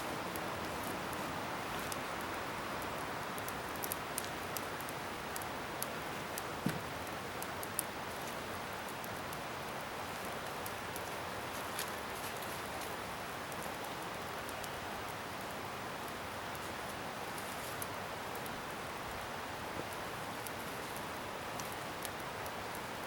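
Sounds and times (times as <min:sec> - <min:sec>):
bonfire hissing and crackling: 0:00.0 - 0:23.0.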